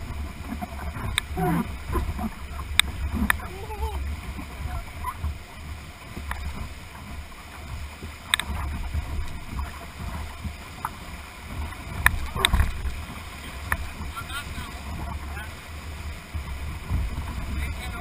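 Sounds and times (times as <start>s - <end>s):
whitewater rapids rushing: 0.0s - 18.0s.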